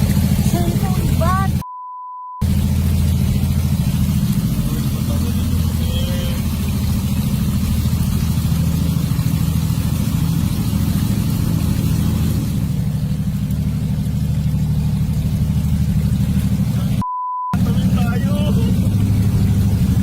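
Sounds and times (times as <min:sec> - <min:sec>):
engine droning: 0:00.0 - 0:01.6, 0:02.4 - 0:20.0.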